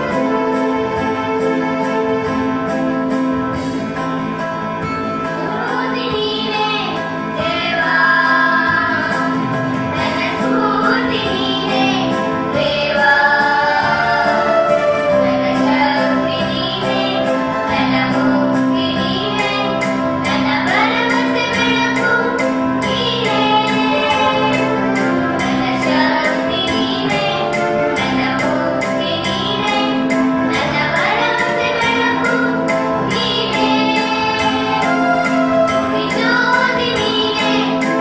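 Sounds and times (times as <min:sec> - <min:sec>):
children singing together: 0:05.4 - 0:38.0.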